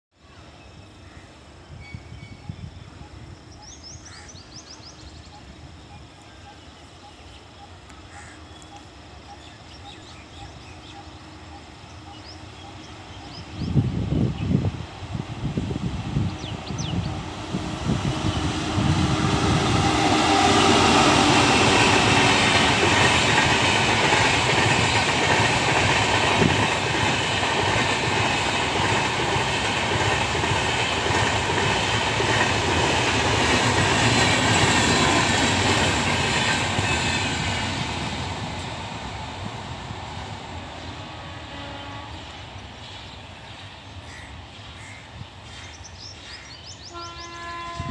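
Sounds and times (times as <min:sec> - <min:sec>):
passenger train rolling past: 0:00.2 - 0:47.9.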